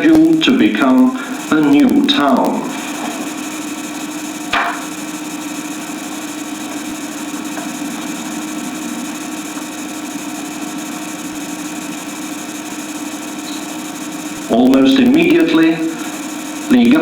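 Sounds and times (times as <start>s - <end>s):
recording hiss and hum: 0.0s - 17.0s.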